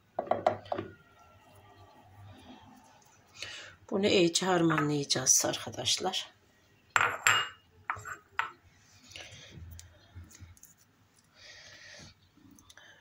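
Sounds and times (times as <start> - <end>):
soft rustling of filling mixed: 0.6 - 6.9, 7.8 - 13.0.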